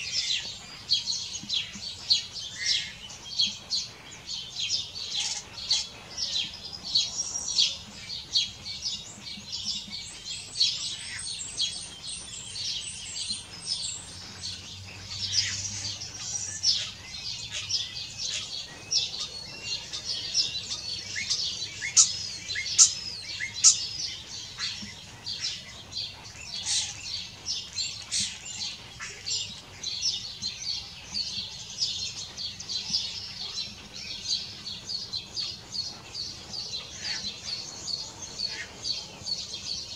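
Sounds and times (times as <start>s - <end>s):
starlings singing: 0.0s - 39.9s.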